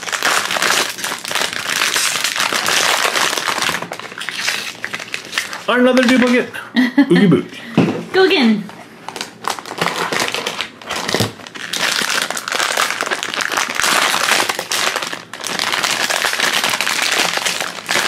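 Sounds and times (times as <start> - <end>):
crinkly packaging tearing: 0.0 - 6.5, 9.1 - 18.0.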